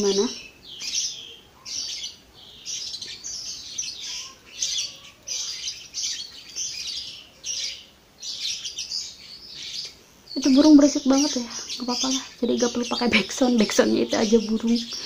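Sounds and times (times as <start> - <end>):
birds chirping rapidly: 0.0 - 15.0.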